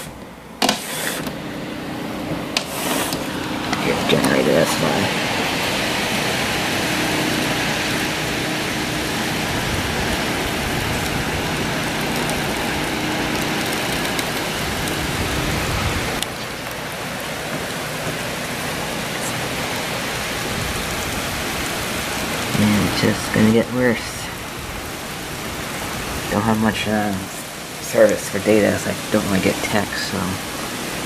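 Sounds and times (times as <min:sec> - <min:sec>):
faint generator hum: 0:00.0 - 0:31.0
rain and wind rushing: 0:00.0 - 0:31.0.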